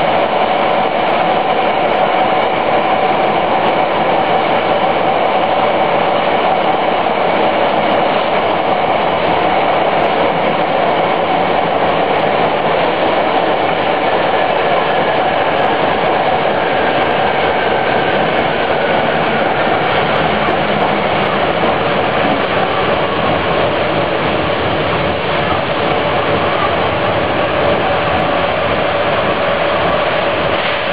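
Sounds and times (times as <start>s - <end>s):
constant whine: 0.0s - 30.9s
subway car rolling rumble: 0.0s - 30.9s.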